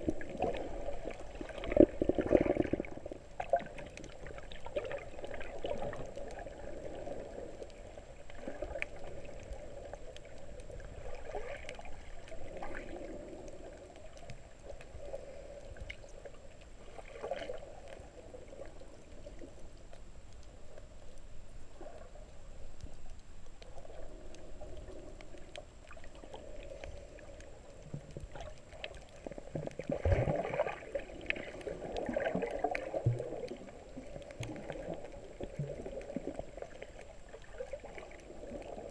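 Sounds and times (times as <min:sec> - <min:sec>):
muffled underwater bubbling: 0:00.0 - 0:19.8, 0:21.7 - 0:38.9.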